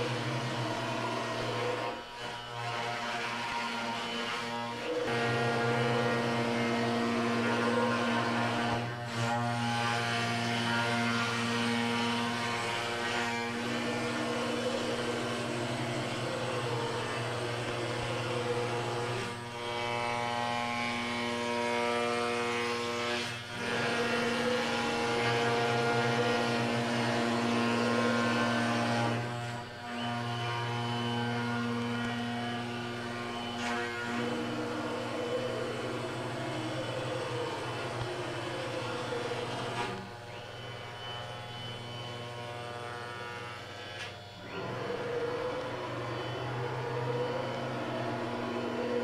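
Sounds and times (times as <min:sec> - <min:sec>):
router spindle humming while cutting: 0:00.0 - 0:49.0.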